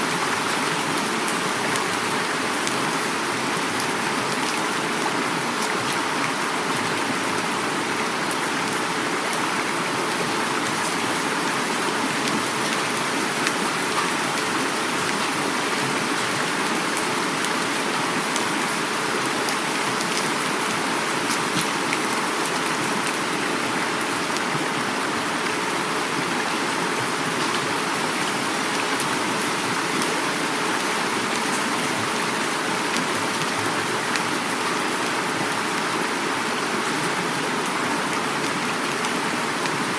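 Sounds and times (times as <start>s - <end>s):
heavy rain: 0.0s - 39.9s
river flowing: 0.0s - 39.9s.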